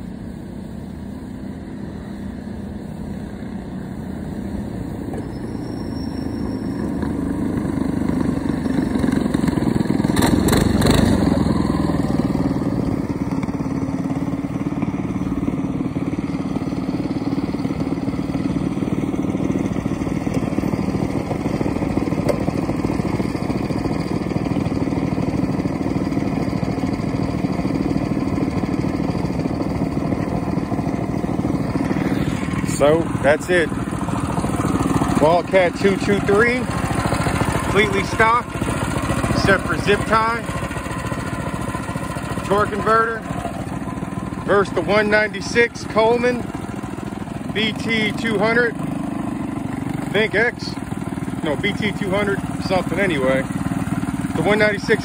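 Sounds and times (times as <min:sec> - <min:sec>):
minibike engines passing: 0:00.0 - 0:55.0.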